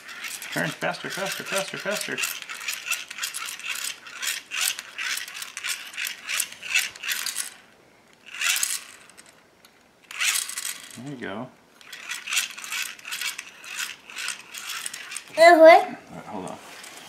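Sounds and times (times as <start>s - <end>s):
toy dynamo gears clicking and whirring: 0.0s - 9.4s, 10.0s - 11.1s, 11.8s - 15.8s.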